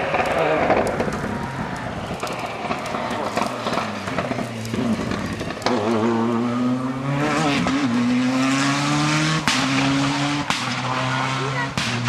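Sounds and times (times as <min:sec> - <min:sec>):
rally car engine at full throttle: 0:00.0 - 0:12.0.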